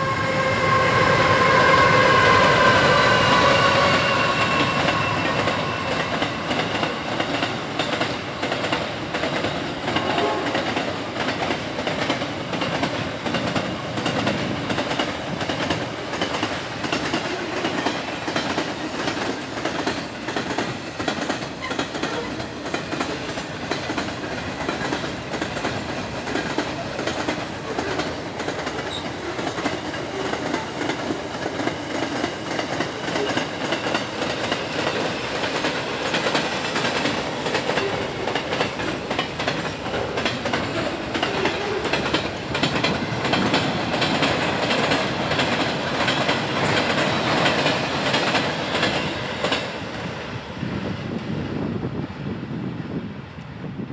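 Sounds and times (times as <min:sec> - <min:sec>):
wheels clicking over rail joints: 0:04.8 - 0:49.8.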